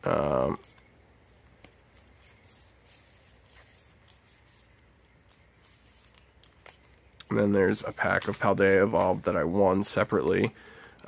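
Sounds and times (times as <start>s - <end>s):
trading cards rustling: 0.1s - 11.0s.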